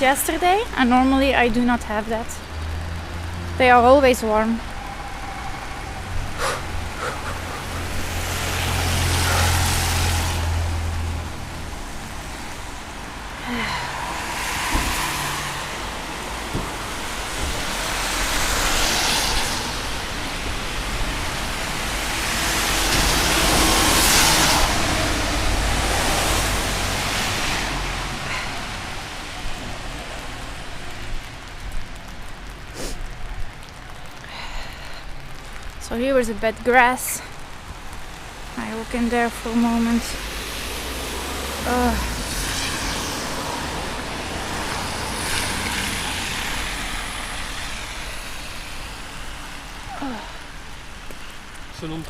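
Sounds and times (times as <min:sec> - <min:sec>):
steady rain: 0:00.0 - 0:52.0
tyres hissing on wet road: 0:00.0 - 0:52.0.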